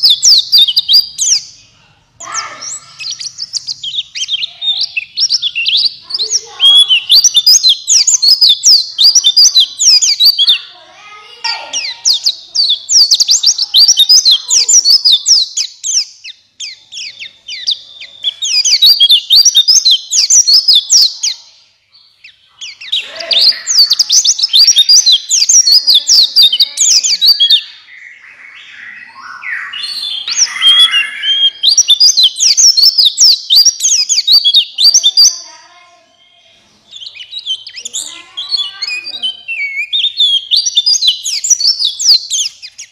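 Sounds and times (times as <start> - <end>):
bird high twittering song: 0.0 - 42.9.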